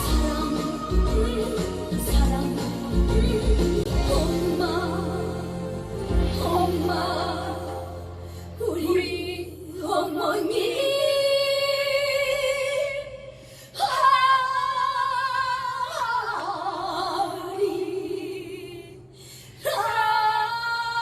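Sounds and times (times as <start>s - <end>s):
woman singing with vibrato: 0.0s - 21.0s.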